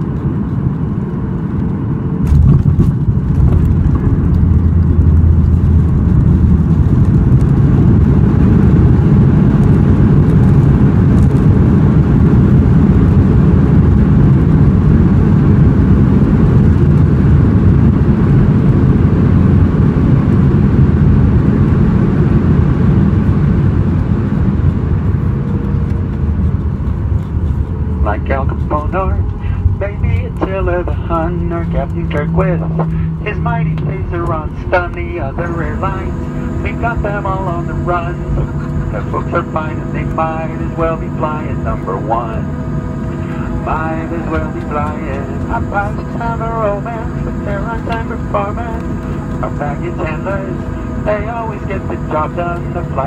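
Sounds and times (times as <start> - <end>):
jet reverse thrust roar: 0.0 - 53.0.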